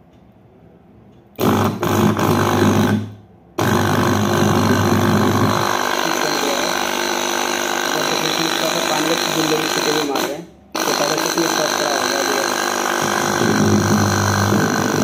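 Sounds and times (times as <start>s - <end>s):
pump buzzing: 1.4s - 15.0s.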